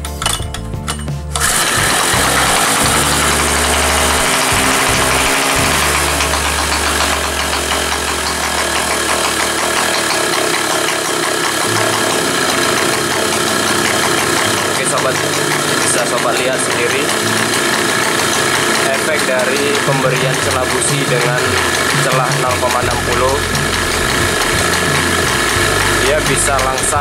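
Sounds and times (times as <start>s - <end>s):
generator engine idling: 0.0s - 27.0s.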